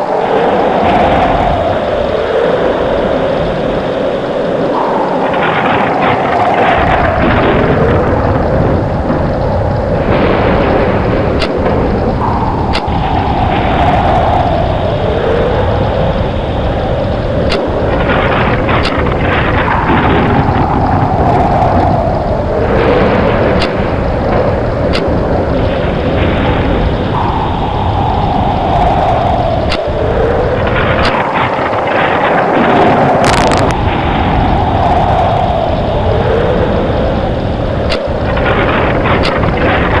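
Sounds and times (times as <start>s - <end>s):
howling tornado wind: 0.0s - 40.0s.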